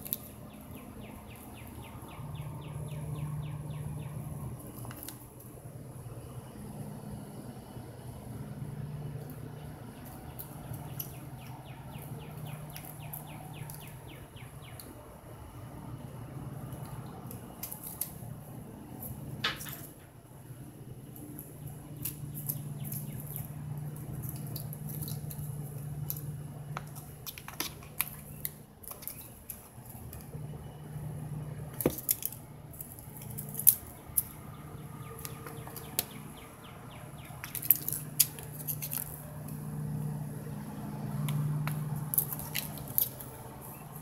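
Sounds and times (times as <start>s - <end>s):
dry leaf crackling: 0.0s - 5.6s, 8.8s - 15.0s, 16.4s - 19.8s, 21.0s - 44.0s
steady low hum: 0.0s - 44.0s.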